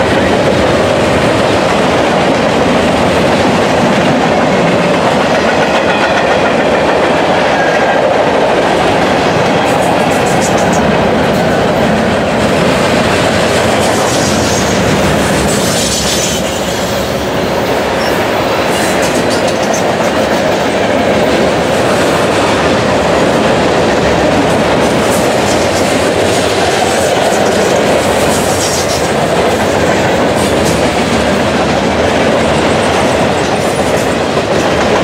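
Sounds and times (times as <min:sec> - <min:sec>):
clicks and clanks from freight cars: 0:00.0 - 0:35.0
steel wheels rolling on rails: 0:00.0 - 0:35.0.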